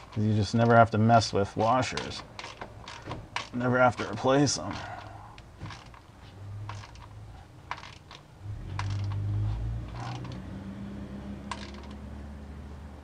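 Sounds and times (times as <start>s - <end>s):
ratchet and socket clicking: 0.0s - 9.3s, 9.9s - 10.4s, 11.4s - 12.0s.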